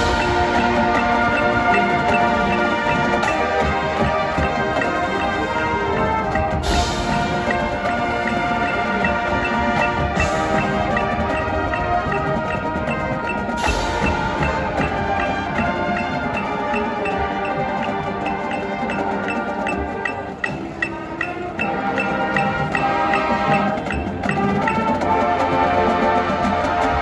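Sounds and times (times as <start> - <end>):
mallet percussion notes: 0.0 - 27.0
marching band playing: 0.0 - 27.0.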